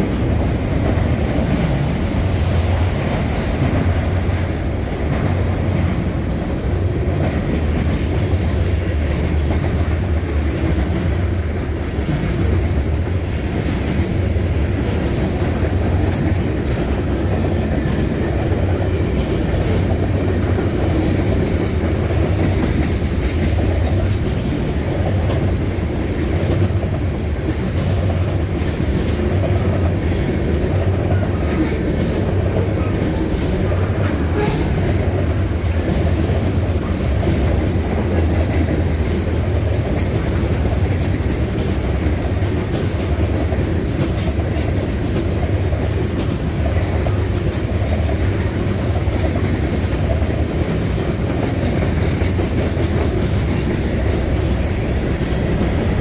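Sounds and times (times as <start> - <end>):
railcars rumbling: 0.0 - 56.0
wheels clicking over rail joints: 0.0 - 56.0.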